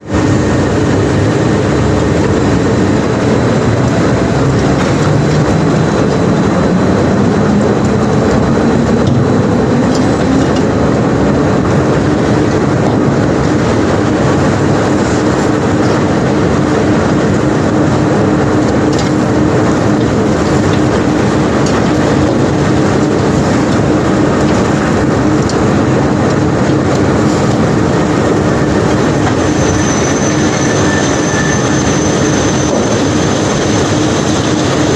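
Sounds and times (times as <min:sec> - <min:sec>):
heavy machinery humming: 0:00.0 - 0:34.9.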